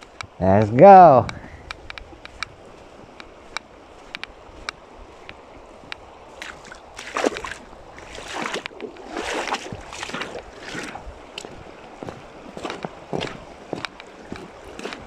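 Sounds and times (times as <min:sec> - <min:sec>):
water sloshing and splashing: 0:02.0 - 0:15.0.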